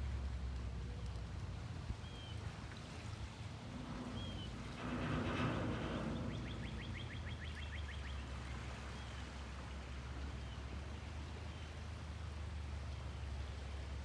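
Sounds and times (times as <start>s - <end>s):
steady low rumble: 0.0s - 13.4s.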